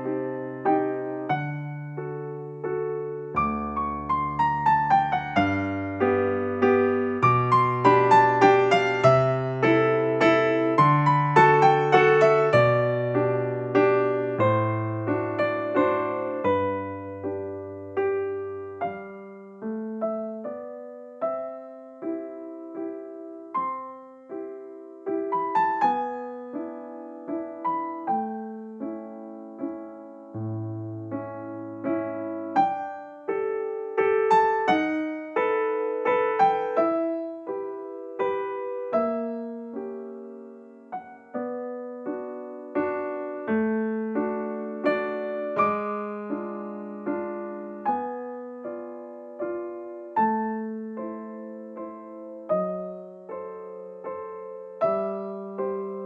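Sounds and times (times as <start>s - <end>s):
gentle electric piano melody: 0.0s - 56.0s.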